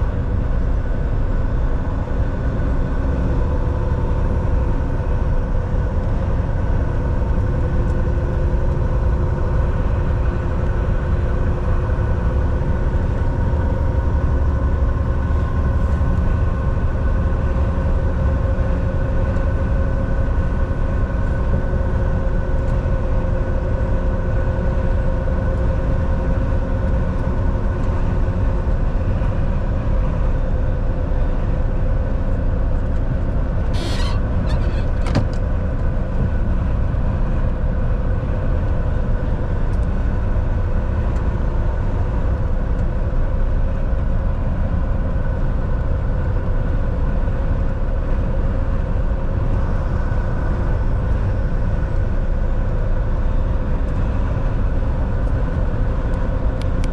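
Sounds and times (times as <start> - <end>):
road rumble: 0.0 - 56.9
truck engine drone: 0.0 - 56.9.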